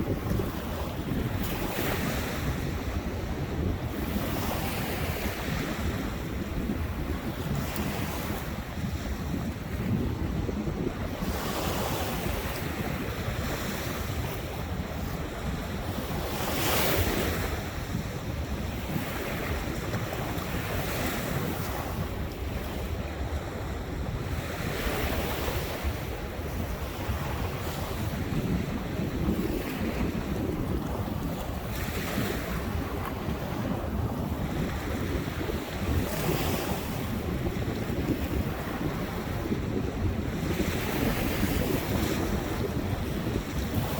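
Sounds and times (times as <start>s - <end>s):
waves breaking on shore: 0.0s - 43.9s
wind buffeting microphone: 0.0s - 43.9s.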